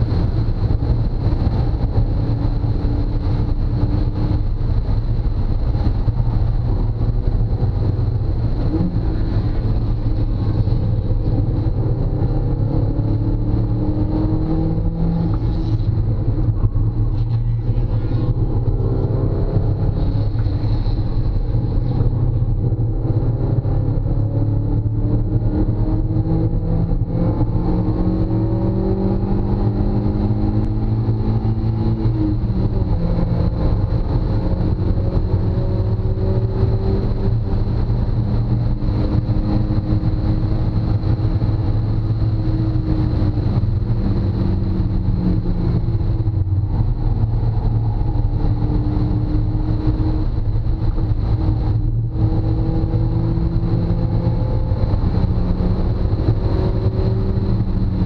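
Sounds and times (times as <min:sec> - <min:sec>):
car engine pulling hard: 0:00.0 - 0:58.0
road and wind noise: 0:00.0 - 0:58.0.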